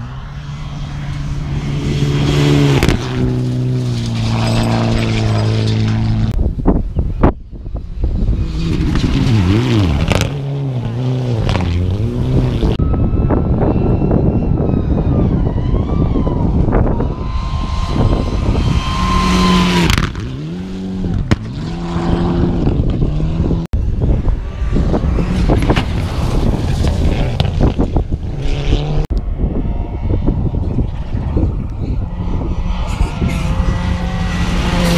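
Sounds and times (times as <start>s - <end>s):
rally car engines revving: 0.0s - 6.4s, 7.2s - 34.9s.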